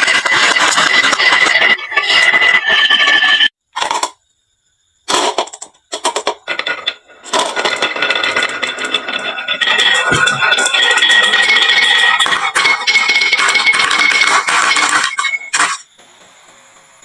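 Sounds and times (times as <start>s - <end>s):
marbles clattering down wooden track: 0.0s - 4.1s, 5.1s - 15.9s.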